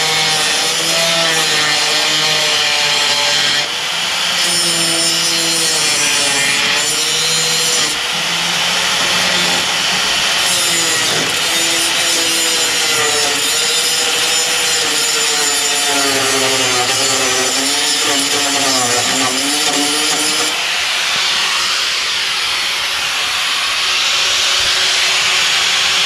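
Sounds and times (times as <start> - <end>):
electric grinder grinding metal: 0.0 - 26.0.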